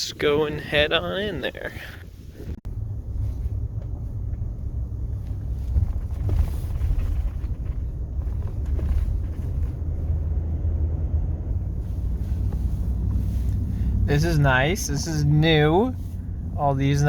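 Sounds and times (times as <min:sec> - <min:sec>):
road rumble: 0:00.0 - 0:17.0
truck engine: 0:00.0 - 0:17.0.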